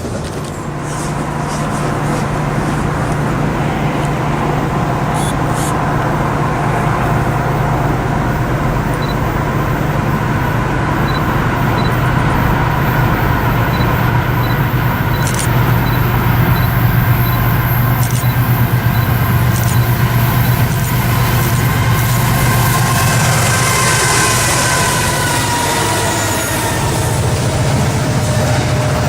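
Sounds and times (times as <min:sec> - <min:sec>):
low engine drone: 0:00.0 - 0:29.0
train rumbling past: 0:00.0 - 0:29.0.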